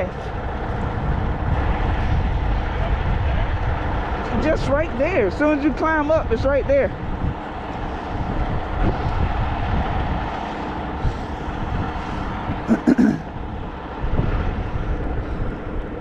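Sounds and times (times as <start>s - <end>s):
truck engine rumbling: 0.0s - 16.0s
wind noise: 0.0s - 16.0s.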